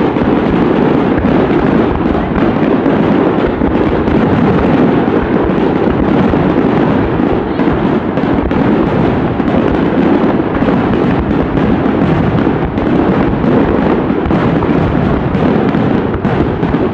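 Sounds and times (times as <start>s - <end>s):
fireworks bangs and crackles: 0.0s - 16.9s.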